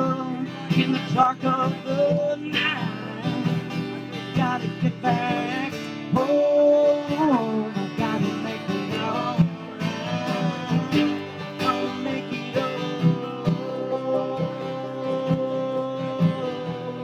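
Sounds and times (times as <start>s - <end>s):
man singing: 0.0s - 17.0s
picked banjo: 0.0s - 17.0s
strummed acoustic guitar: 0.0s - 17.0s.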